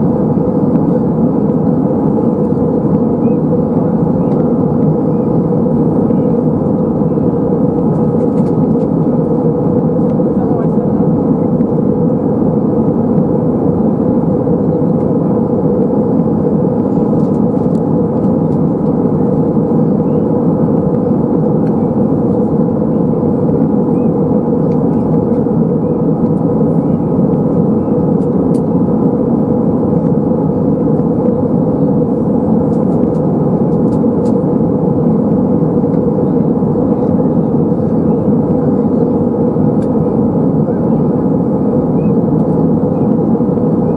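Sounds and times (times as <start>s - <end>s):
airflow rush: 0.0s - 43.9s
airplane cabin drone: 0.0s - 43.9s
jet engines humming: 0.0s - 43.9s.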